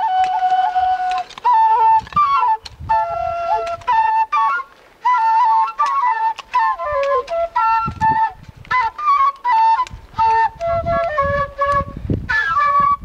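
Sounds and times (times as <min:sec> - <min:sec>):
end-blown flute melody: 0:00.0 - 0:13.0.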